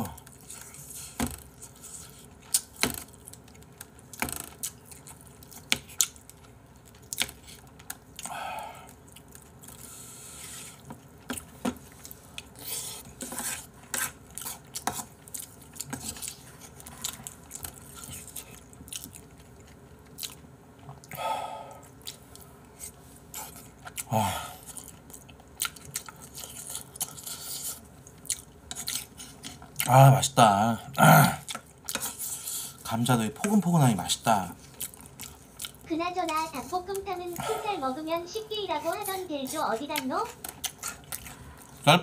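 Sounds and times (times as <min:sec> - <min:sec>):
chewing: 0:00.1 - 0:30.0, 0:30.9 - 0:42.0.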